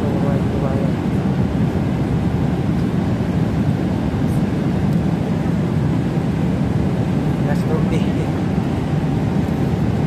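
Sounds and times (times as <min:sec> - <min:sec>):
jet airliner cabin rumble: 0:00.0 - 0:10.0.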